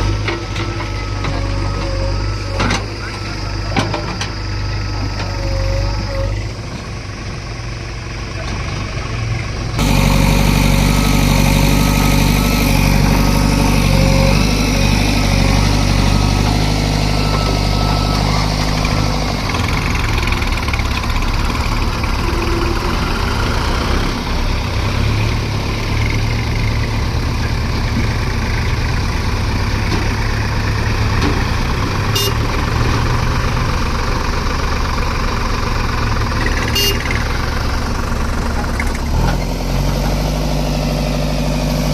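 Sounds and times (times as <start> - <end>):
heavy machinery diesel engines: 0.0 - 41.9.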